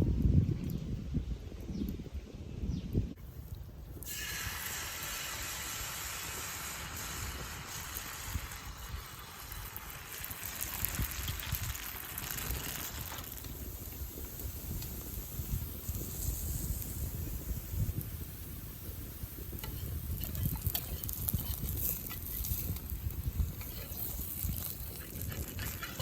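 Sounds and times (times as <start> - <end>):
batter sizzling on hot pan: 3.9 - 26.0.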